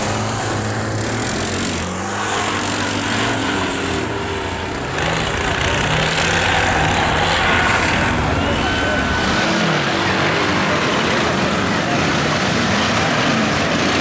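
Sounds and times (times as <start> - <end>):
quad bike engine under load: 0.0 - 14.0.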